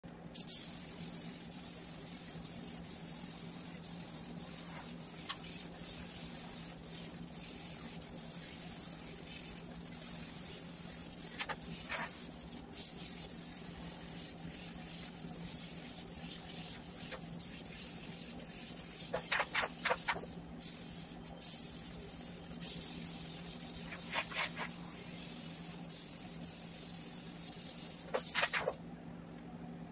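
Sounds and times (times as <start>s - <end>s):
low steady hum: 0.0s - 29.9s
airbrush hissing: 0.4s - 28.8s.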